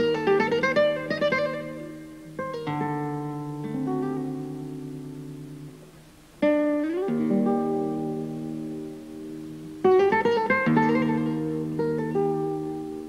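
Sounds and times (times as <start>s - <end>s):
flamenco guitar playing: 0.0s - 13.0s.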